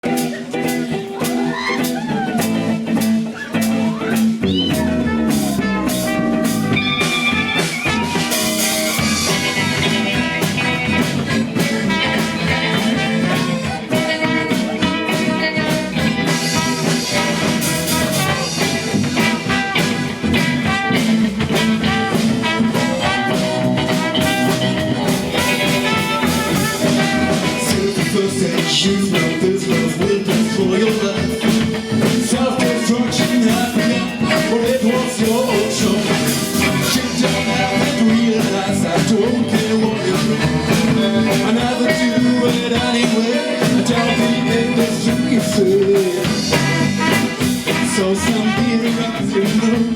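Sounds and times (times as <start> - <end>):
guitar playing: 0.0 - 49.9
steady drum beat: 0.0 - 49.9.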